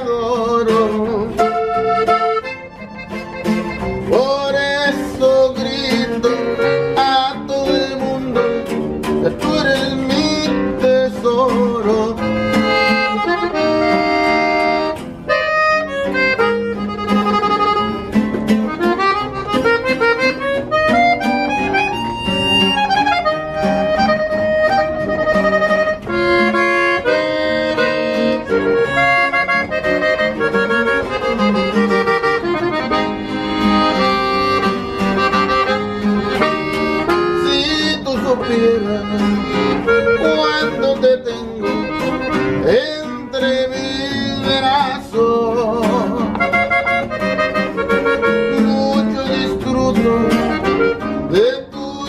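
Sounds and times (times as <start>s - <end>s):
accordion melody: 0.0s - 52.0s
guitar accompaniment: 0.0s - 52.0s.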